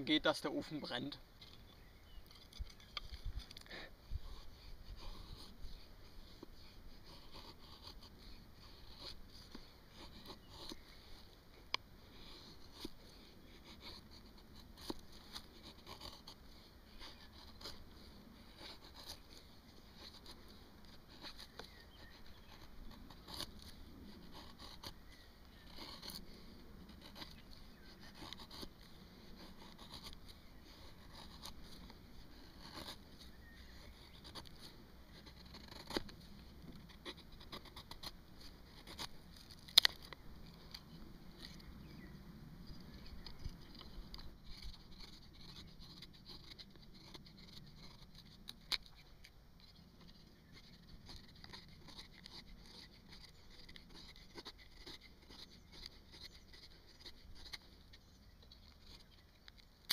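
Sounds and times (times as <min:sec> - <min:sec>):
knife scraping wood: 0:01.4 - 0:42.1, 0:42.7 - 0:59.9.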